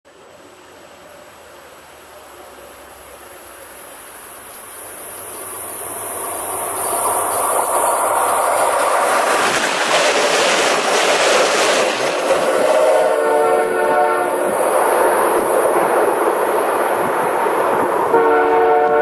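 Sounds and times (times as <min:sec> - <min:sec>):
rushing wheel and rail noise: 0:00.1 - 0:19.0
train passing: 0:00.1 - 0:19.0.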